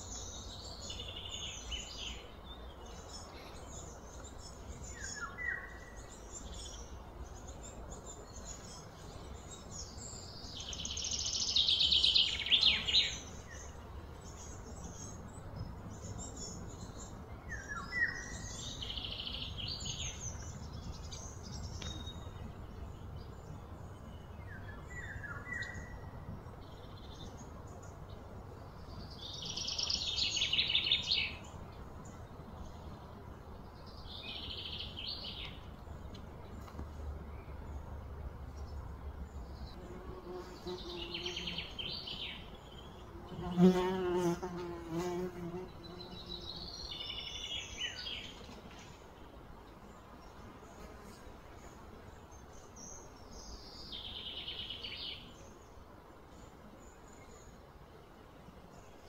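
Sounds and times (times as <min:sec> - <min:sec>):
birds chirping and trilling: 0:00.0 - 0:59.0
low outdoor background: 0:00.0 - 0:59.0.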